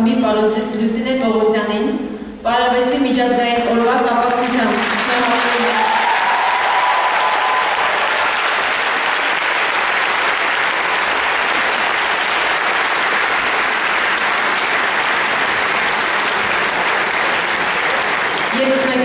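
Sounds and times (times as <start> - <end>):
crowd applauding: 3.6 - 19.0.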